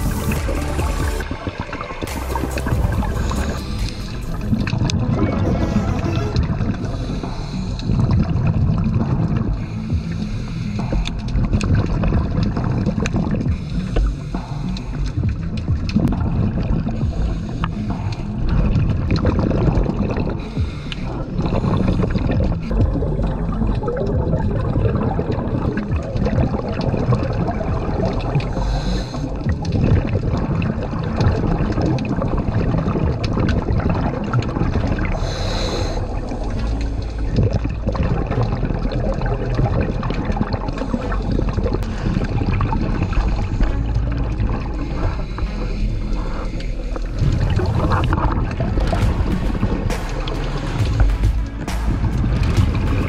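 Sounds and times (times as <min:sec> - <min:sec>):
bubbling: 0:00.0 - 0:53.0
muffled underwater rumble: 0:00.0 - 0:53.0.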